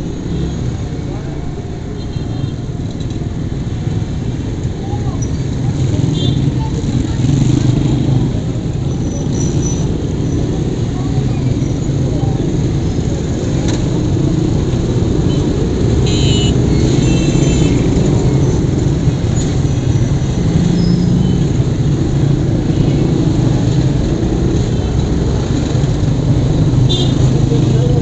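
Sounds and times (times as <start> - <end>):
motorcycle engines at low revs: 2.7 - 28.0.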